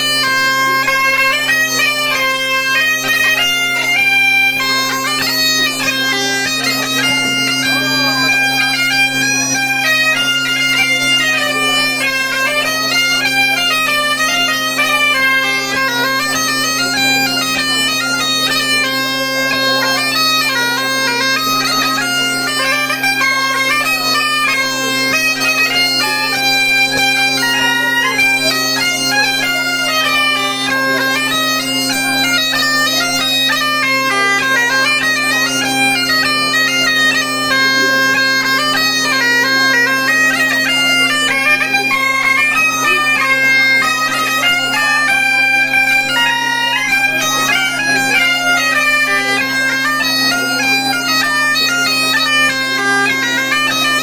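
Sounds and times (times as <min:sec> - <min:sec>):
bagpipe playing dance tune: 0:00.0 - 0:54.0
bombarde playing: 0:00.0 - 0:54.0.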